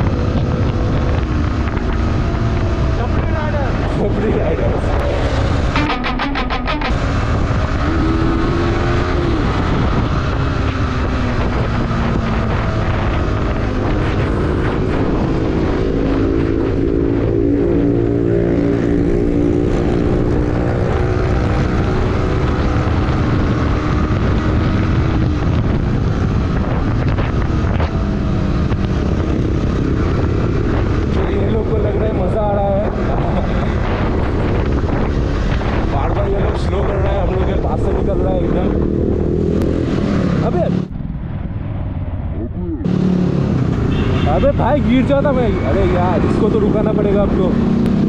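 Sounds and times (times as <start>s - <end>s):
motorcycle engine cruising: 0.0s - 48.0s
wind noise on microphone: 0.0s - 48.0s.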